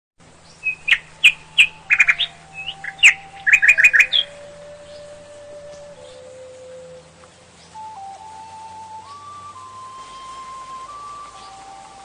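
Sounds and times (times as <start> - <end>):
bird chirping: 0.2 - 12.0.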